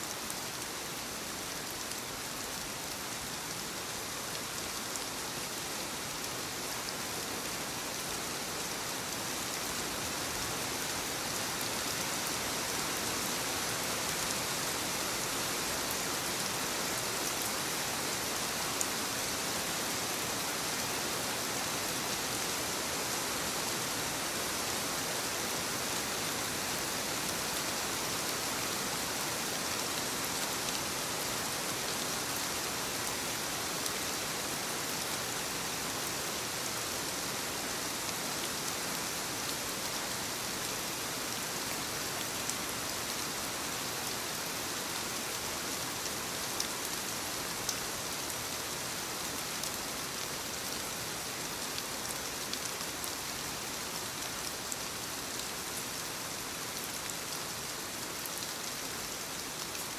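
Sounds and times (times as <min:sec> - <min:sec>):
soft rain on leaves: 0:00.0 - 0:59.9.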